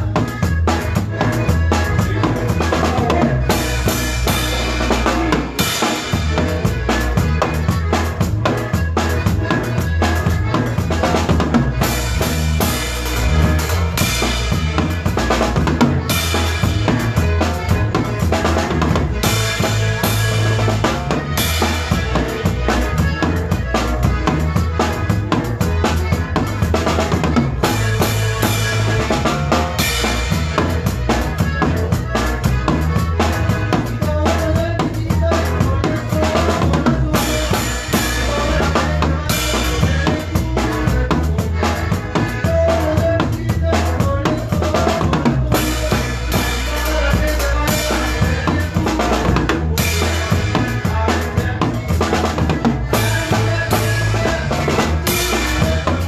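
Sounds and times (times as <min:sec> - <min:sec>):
drum kit: 0:00.0 - 0:56.0
live band playing: 0:00.0 - 0:56.0
steady bass line: 0:00.0 - 0:56.0.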